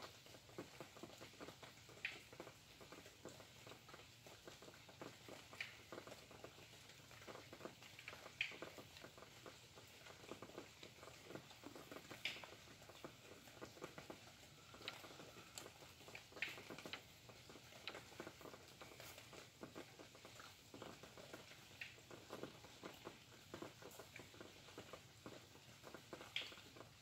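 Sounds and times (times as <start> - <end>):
faint rain pattering: 0.0 - 27.0
water drips: 0.1 - 27.0.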